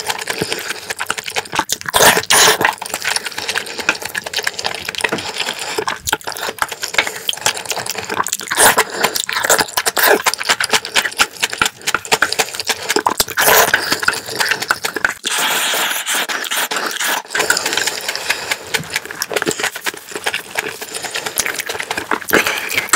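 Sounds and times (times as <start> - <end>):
sticky mouth clicks and smacks: 0.0 - 22.9
wet chewing and slurping: 0.0 - 22.9.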